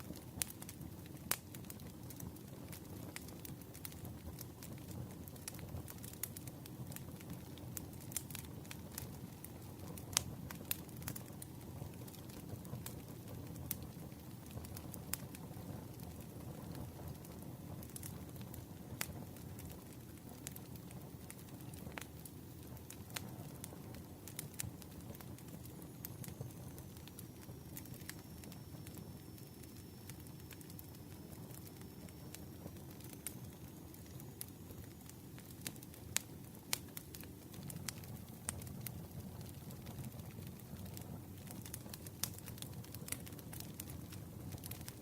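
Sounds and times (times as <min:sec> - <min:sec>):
campfire burning: 0:00.0 - 0:45.0
wood crackling and popping: 0:00.0 - 0:45.0.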